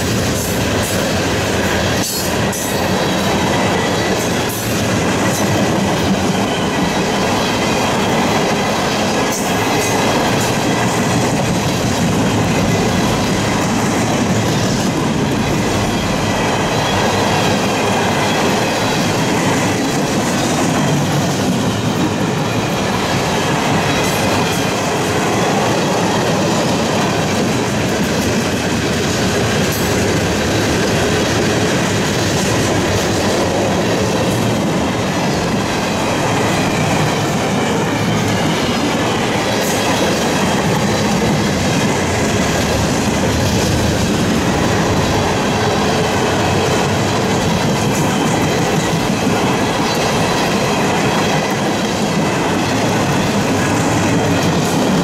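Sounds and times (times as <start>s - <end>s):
steel wheels rolling on rail: 0.0s - 55.0s.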